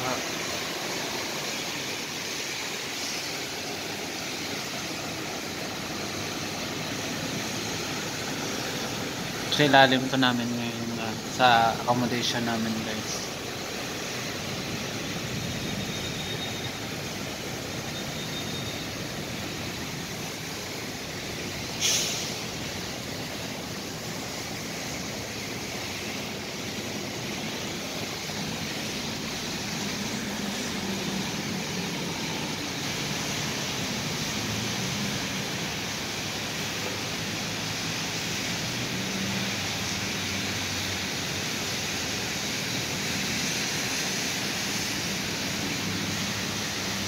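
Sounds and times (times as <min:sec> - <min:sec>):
heavy rain hissing: 0:00.0 - 0:47.0
traffic swishing through water: 0:00.0 - 0:47.0.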